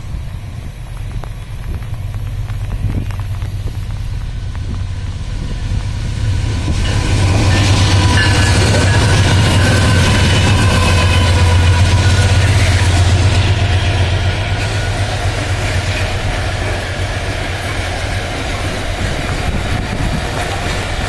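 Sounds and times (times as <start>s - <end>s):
diesel locomotives rumbling past: 0.0s - 21.0s.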